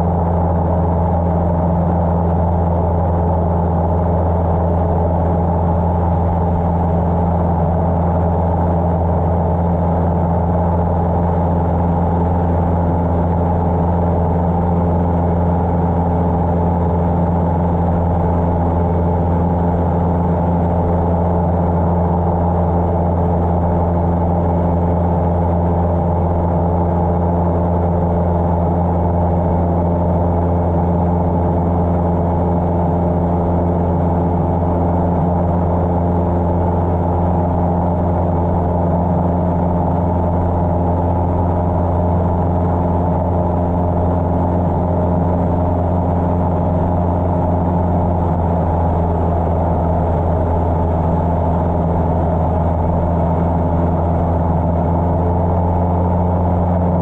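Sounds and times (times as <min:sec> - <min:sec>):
aircraft engine droning in cabin: 0:00.0 - 0:57.0.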